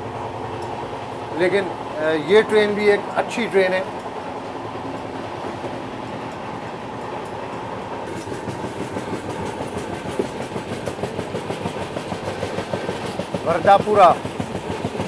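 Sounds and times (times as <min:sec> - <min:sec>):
train wheels on rails: 0:00.0 - 0:15.0
wheels clicking over track: 0:00.0 - 0:15.0.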